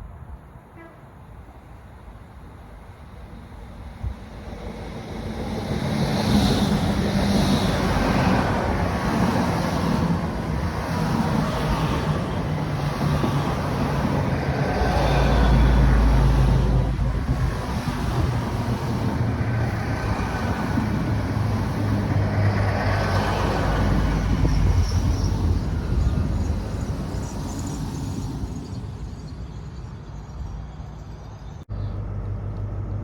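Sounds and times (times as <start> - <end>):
diesel train engines running: 0.2 - 30.9.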